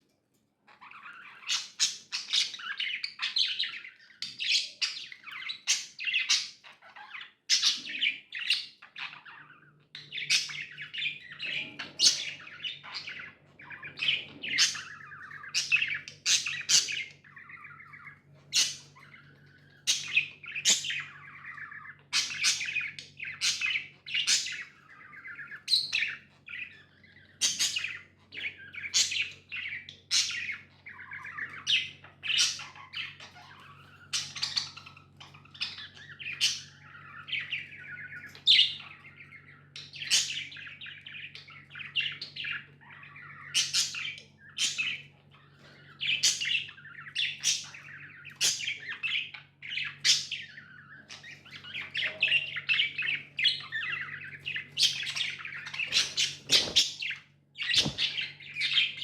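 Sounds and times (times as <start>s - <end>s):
budgies chirping: 0.0s - 59.0s.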